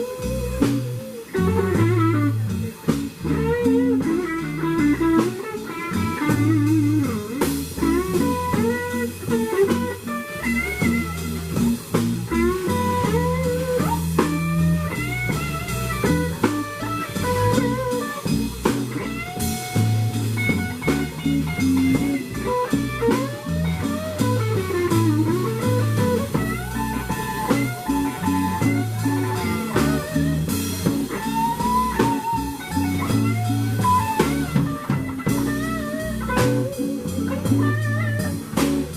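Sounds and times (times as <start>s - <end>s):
drums: 0.0s - 38.9s
electric guitar solo: 0.0s - 38.9s
walking bass line: 0.0s - 38.9s.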